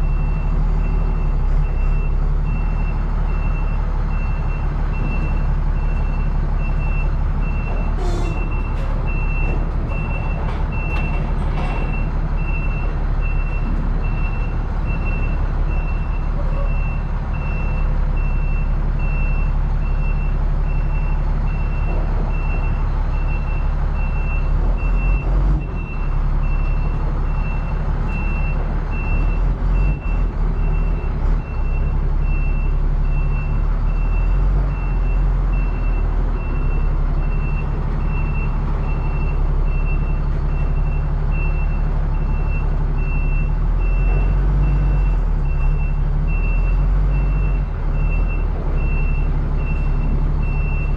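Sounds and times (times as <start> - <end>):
truck engine running: 0.0 - 50.9.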